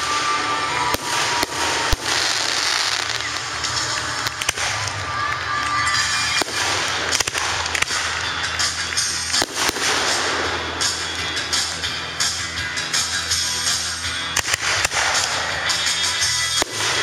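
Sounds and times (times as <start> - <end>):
firework shells bursting: 0.0 - 11.9, 14.3 - 17.0
crackle of burning stars: 0.0 - 17.0.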